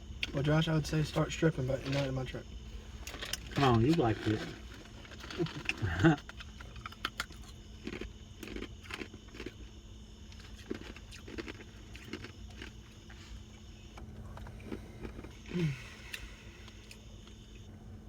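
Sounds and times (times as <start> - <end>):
steady low hum: 0.0 - 18.0
person chewing food: 2.8 - 17.6.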